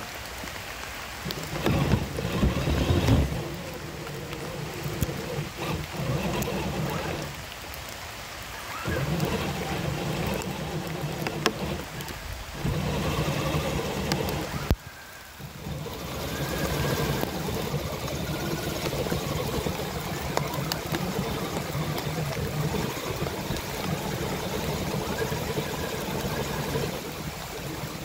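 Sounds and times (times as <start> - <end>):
tyres and chassis clicking: 1.1 - 28.0
rc crawler motor whining: 1.2 - 7.7, 8.6 - 28.0.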